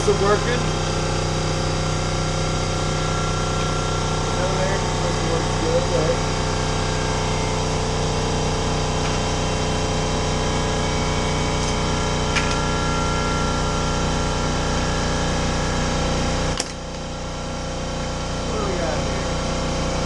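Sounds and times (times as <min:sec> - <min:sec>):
air compressor running: 0:00.0 - 0:20.0.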